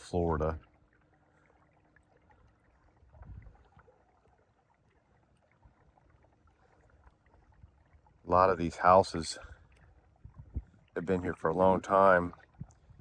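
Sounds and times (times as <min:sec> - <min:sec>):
water trickling against kayak hull: 0:00.0 - 0:13.0.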